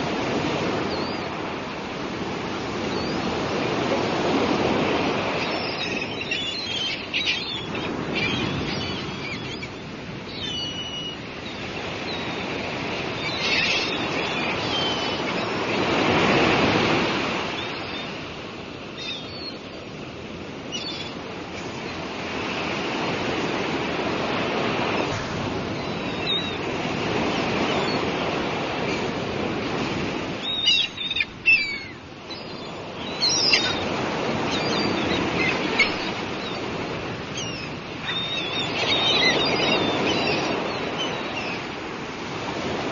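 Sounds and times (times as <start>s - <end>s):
sea waves washing: 0.0s - 42.9s
gulls calling: 0.2s - 42.9s.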